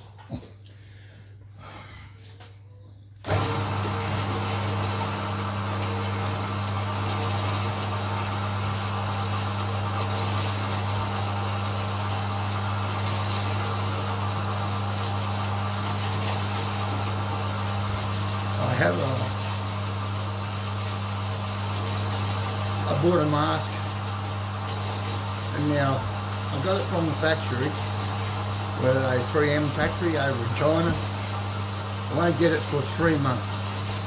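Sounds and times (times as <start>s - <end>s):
bandsaw cutting steel: 3.3s - 34.0s.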